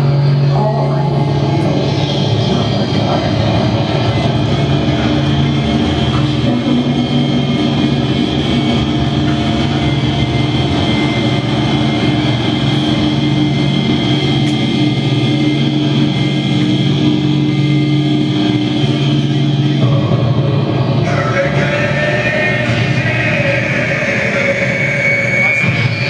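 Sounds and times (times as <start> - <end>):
electronic drone music: 0.0 - 26.0.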